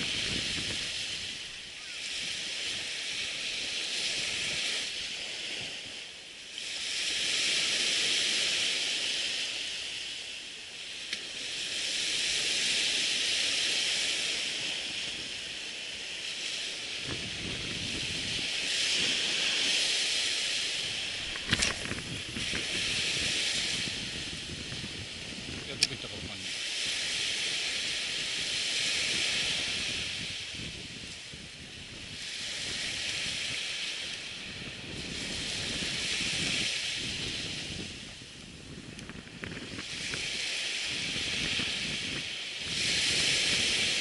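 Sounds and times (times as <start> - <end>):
surf breaking on beach: 0.0 - 44.0
wind rumble on microphone: 0.0 - 44.0.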